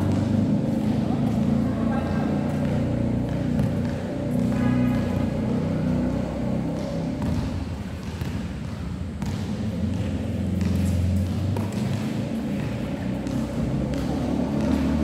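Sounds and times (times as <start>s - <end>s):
basketball bouncing on hard floor: 0.0s - 1.5s, 2.5s - 5.3s, 6.6s - 15.0s.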